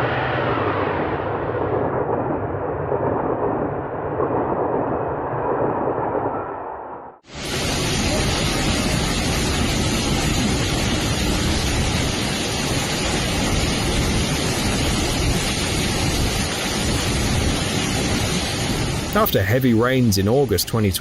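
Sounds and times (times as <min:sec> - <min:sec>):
loud steady rushing noise: 0:00.0 - 0:05.2, 0:07.2 - 0:21.0.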